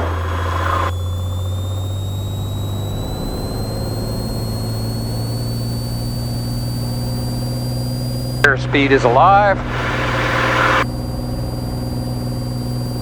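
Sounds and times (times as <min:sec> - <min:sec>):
propeller aircraft engine drone: 0:00.0 - 0:13.0
thin high whine: 0:00.0 - 0:13.0.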